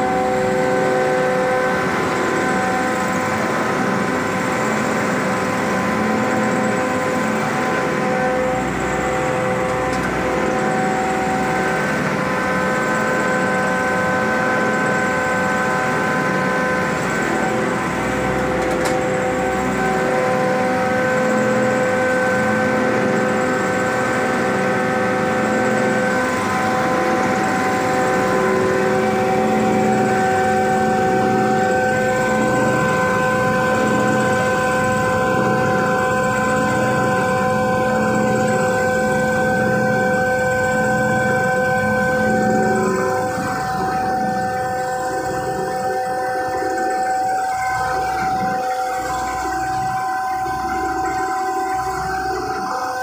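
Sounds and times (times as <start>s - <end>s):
grinder machine whining and rumbling: 0.0s - 53.0s.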